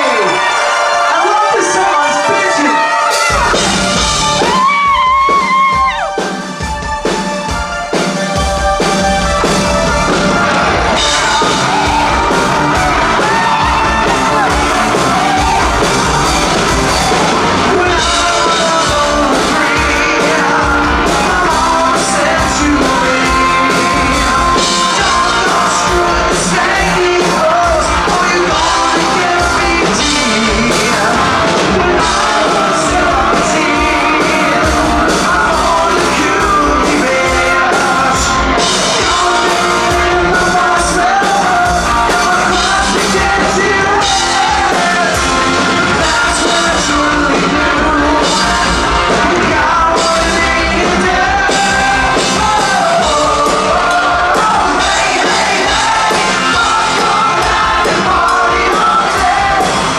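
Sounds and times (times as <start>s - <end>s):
lead vocal singing: 0.0s - 6.4s, 9.4s - 59.9s
drums: 0.0s - 59.9s
rock band playing live: 0.0s - 59.9s.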